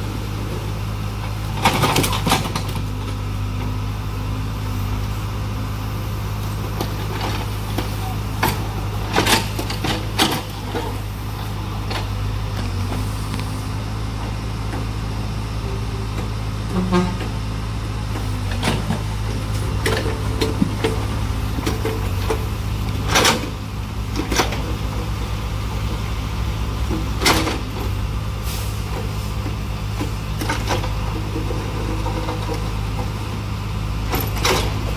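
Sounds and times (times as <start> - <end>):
backhoe diesel engine running: 0.0 - 34.9.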